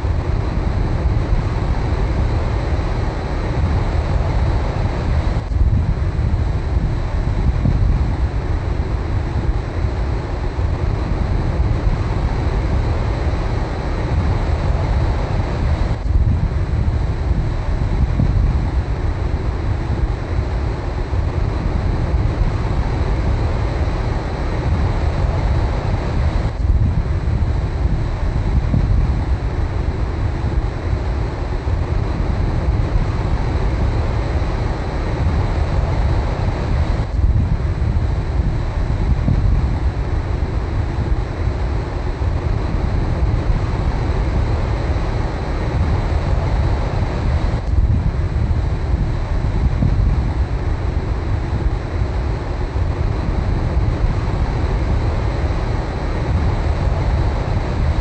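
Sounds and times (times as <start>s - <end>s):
wind buffeting microphone: 0.0s - 58.0s
ocean surf on beach: 0.1s - 58.0s.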